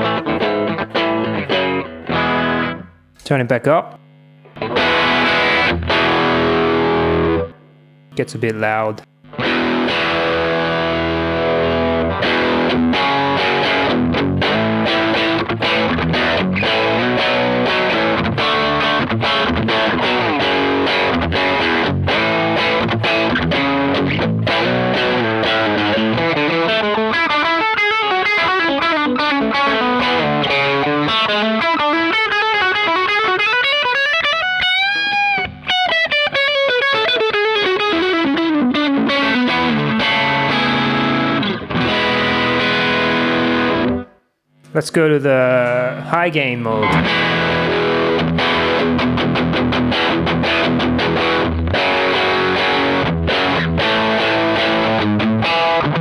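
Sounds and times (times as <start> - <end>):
distorted electric guitar: 0.0 - 3.2, 3.9 - 56.0.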